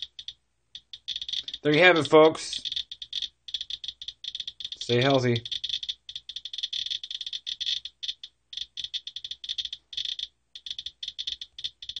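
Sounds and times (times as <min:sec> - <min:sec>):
geiger counter clicking rapidly: 0:00.0 - 0:12.0.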